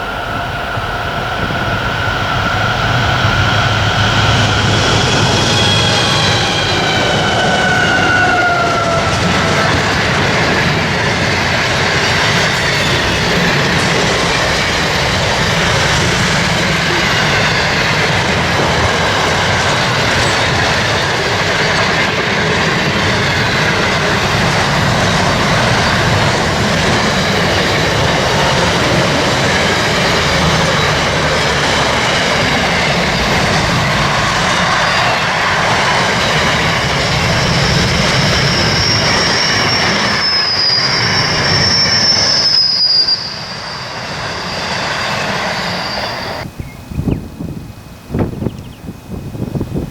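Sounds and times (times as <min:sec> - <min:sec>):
train wheels clattering on rails: 0:00.0 - 0:46.5.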